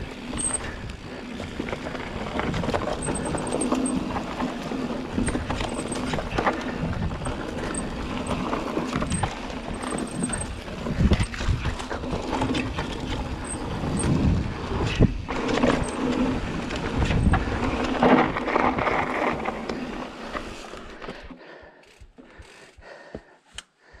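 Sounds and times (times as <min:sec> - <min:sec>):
bike tyres rolling over dirt: 0:00.0 - 0:21.3
bike rattling and knocking: 0:00.0 - 0:23.3.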